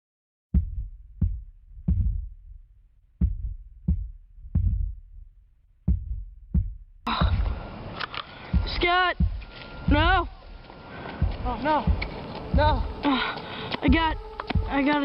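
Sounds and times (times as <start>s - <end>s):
deep thumping heartbeat: 0.5s - 7.7s, 8.5s - 10.6s, 11.2s - 15.0s.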